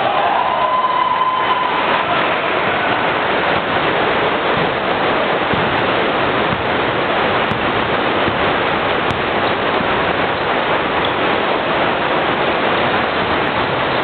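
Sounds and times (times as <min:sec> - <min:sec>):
echoing gymnasium crowd noise: 0:00.0 - 0:14.0.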